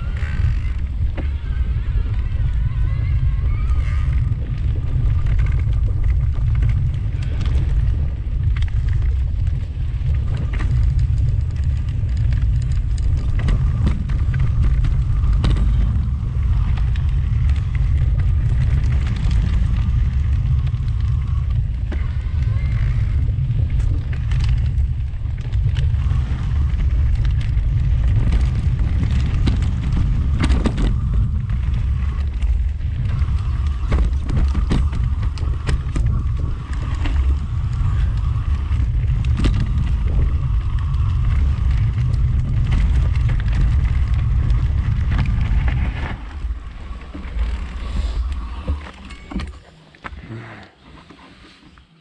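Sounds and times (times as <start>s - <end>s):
bike rattling over bumps: 0.0s - 52.0s
heavy wind: 0.0s - 52.0s
mountain bike trail rumble: 0.0s - 52.0s.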